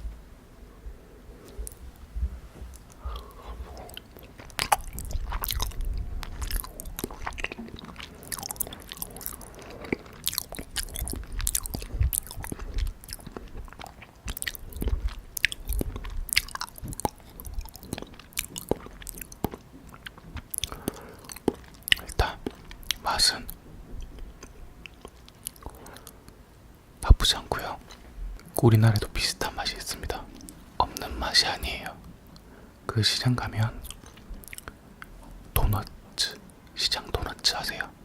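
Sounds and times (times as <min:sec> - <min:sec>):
close chewing with mouth smacks: 0:01.5 - 0:26.4, 0:27.0 - 0:32.5, 0:33.6 - 0:37.8.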